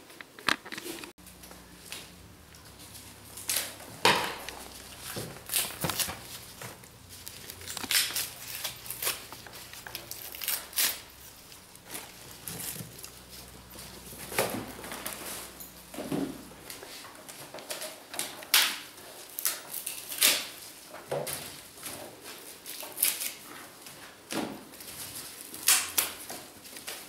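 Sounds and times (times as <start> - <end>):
dry bark rustling and clattering: 0.0 - 27.0.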